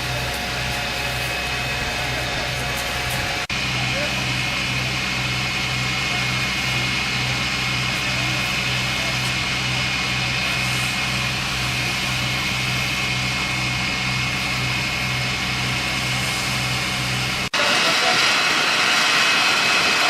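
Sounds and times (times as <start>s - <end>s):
fire truck engine running: 0.0s - 20.0s.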